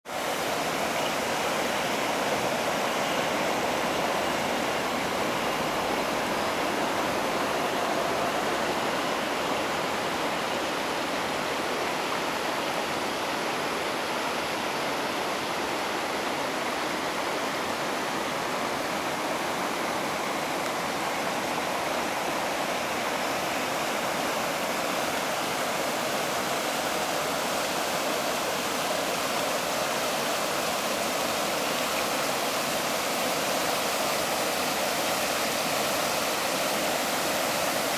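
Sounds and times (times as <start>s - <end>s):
river water rushing over weir: 0.1s - 37.9s.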